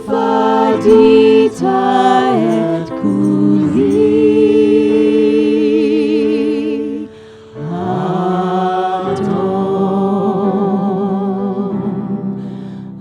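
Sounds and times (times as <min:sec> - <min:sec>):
voices singing worship song: 0:00.0 - 0:13.0.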